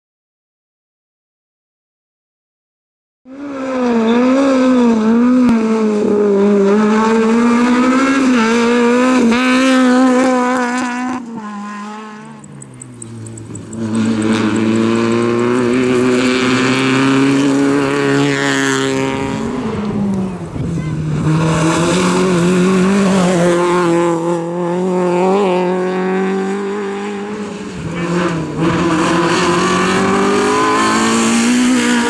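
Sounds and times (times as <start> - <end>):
rally car engine revving: 3.3 - 32.0.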